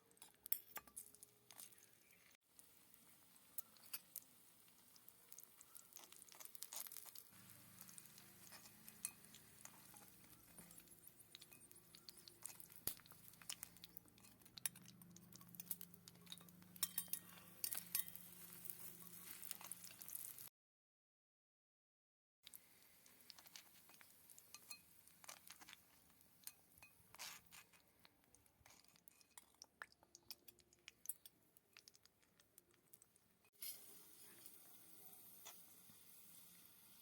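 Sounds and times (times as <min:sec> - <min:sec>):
small utensils clinking on dishes: 0:00.1 - 0:02.4, 0:03.1 - 0:20.5, 0:23.1 - 0:28.0, 0:28.6 - 0:32.0, 0:33.5 - 0:37.0.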